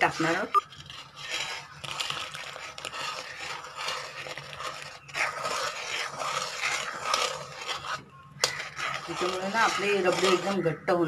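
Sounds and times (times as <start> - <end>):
spoon scraping metal pan: 0.0 - 11.0.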